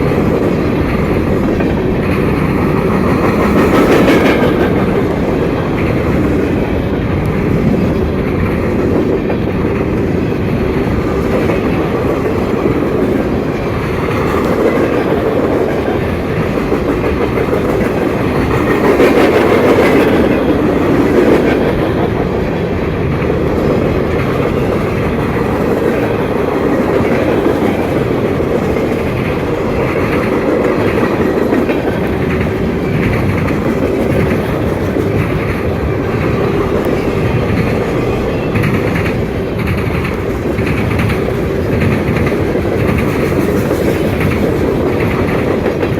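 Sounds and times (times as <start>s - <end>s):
freight train rumbling past: 0.0s - 45.9s
wheels clattering over rail joints: 0.0s - 45.9s.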